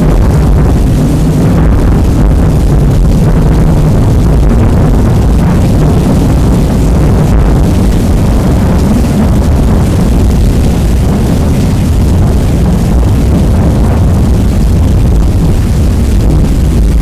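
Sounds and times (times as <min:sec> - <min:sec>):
distorted rain rumble: 0:00.0 - 0:17.0.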